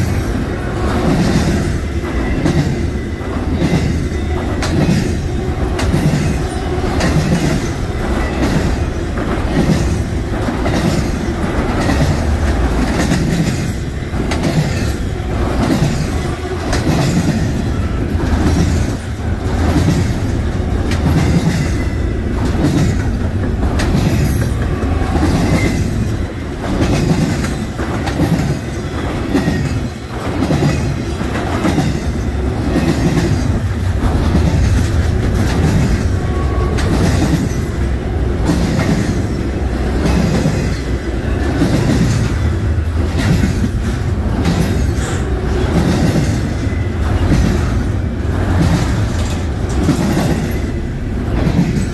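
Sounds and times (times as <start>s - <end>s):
train rumble: 0.0s - 51.9s
train wheels clicking: 0.0s - 51.9s.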